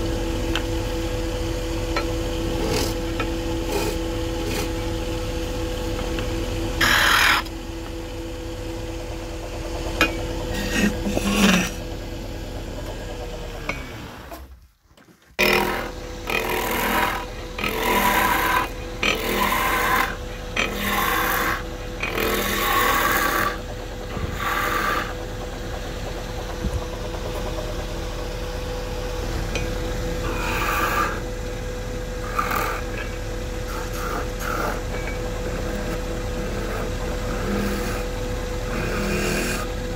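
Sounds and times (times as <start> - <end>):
wood lathe motor hum: 0.0 - 14.5, 15.4 - 39.9
tool scraping spinning wood: 1.8 - 14.5, 15.3 - 39.9.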